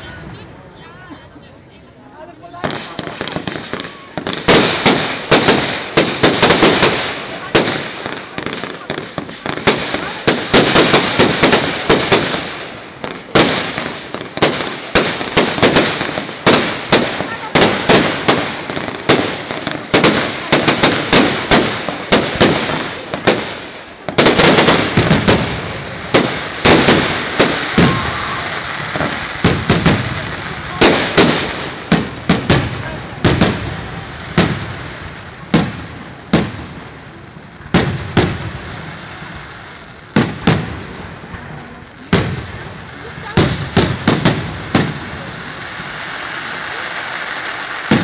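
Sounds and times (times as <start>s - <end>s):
fireworks crackle and rumble: 0.0s - 48.0s
fireworks bangs: 2.2s - 48.0s.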